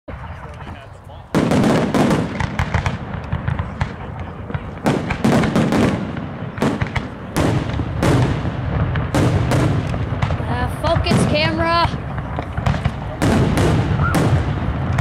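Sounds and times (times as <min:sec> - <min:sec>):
fireworks bursting: 0:00.1 - 0:15.0
fireworks crackle: 0:00.1 - 0:15.0.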